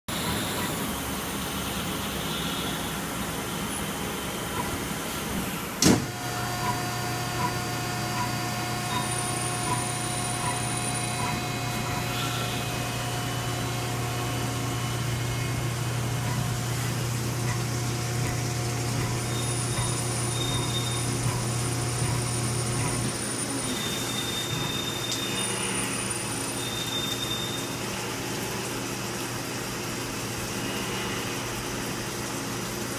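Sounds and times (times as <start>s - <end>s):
lathe mechanical hum: 0.1s - 32.9s.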